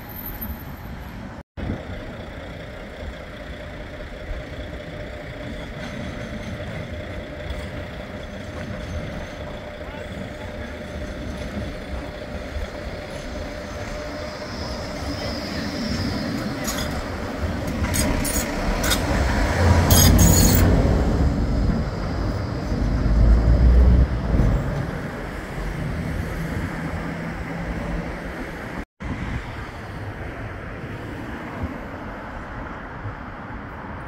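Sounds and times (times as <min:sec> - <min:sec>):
tram passing: 0:00.0 - 0:34.0.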